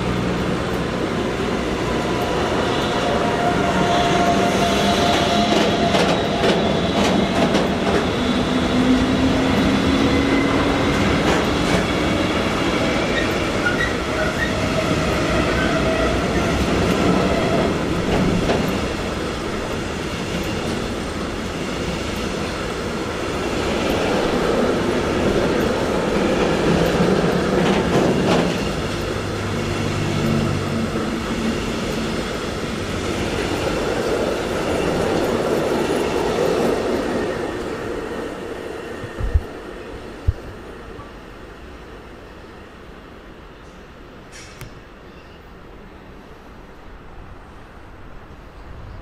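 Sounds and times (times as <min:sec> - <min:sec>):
train wheels rumbling on rails: 0:00.0 - 0:41.7.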